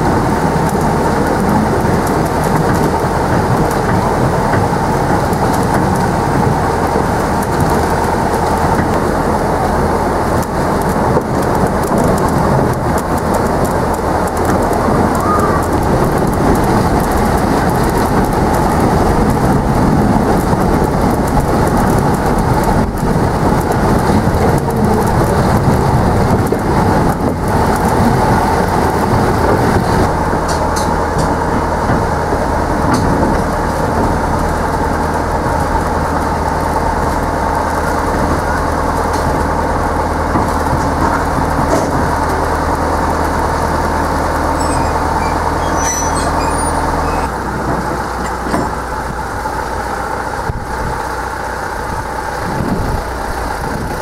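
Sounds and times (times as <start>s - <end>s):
diesel locomotive engine running: 0.0s - 54.0s
train wheels rumbling on track: 0.0s - 54.0s.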